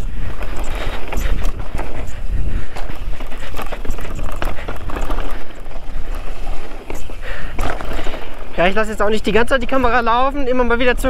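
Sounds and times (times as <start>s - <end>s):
chain and frame clatter: 0.0s - 9.1s
bike tyres crunching on trail: 0.0s - 11.0s
wind rumble on microphone: 0.0s - 11.0s.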